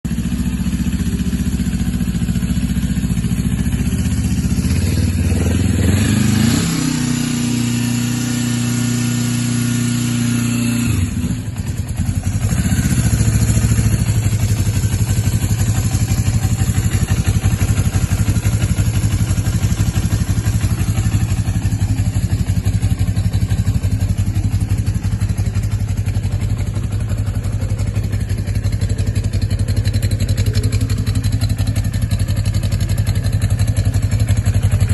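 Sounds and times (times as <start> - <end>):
motorcycle engine revving and idling: 0.0 - 34.9.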